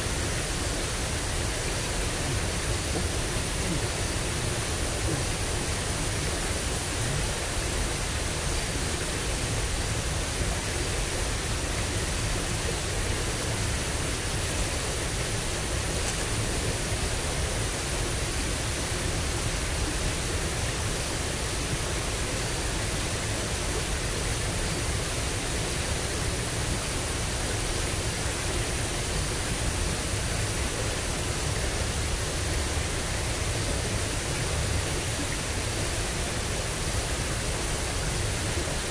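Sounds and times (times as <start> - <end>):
water rushing in ditch: 0.0 - 38.9.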